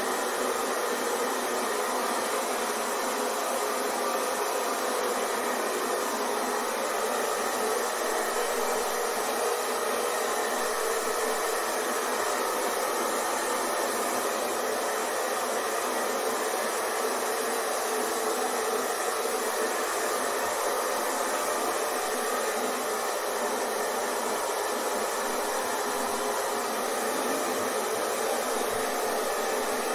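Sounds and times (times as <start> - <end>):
hair dryer running: 0.0 - 29.9.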